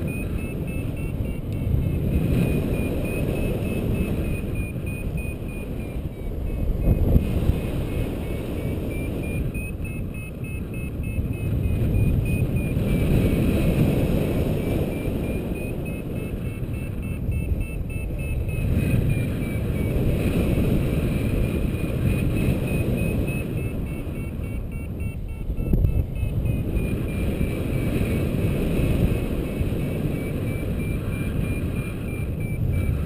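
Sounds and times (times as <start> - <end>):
electronic variometer beeps: 0.0 - 33.0
wind buffeting microphone: 0.0 - 33.0.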